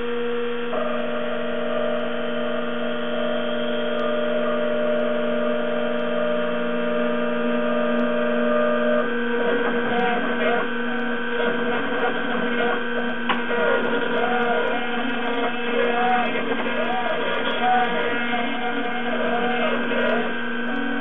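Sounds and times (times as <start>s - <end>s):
milling machine spindle hum: 0.0s - 21.0s
motors whirring: 0.0s - 21.0s.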